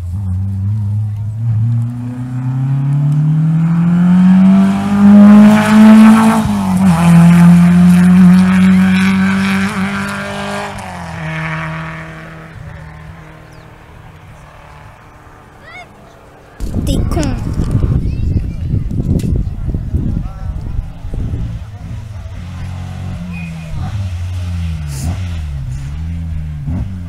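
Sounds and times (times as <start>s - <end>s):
rally car engine revving: 0.0s - 18.2s, 19.2s - 27.0s.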